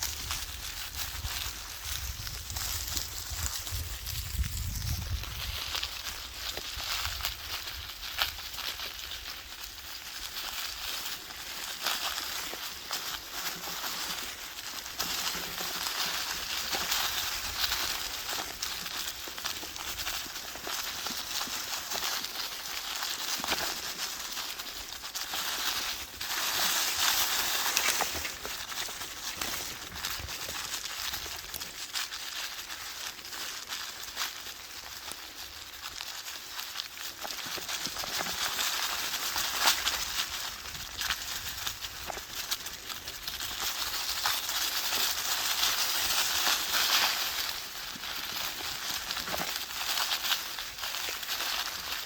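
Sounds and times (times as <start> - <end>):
footsteps through dry leaves: 0.0 - 52.0.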